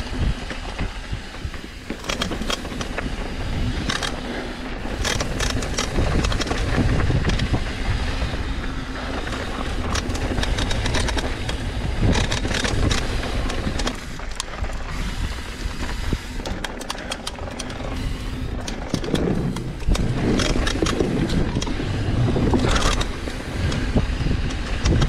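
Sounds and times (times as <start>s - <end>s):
bike clattering over bumps: 0.0s - 25.0s
tyres on dirt: 0.0s - 25.0s
wind rumble: 0.0s - 25.0s.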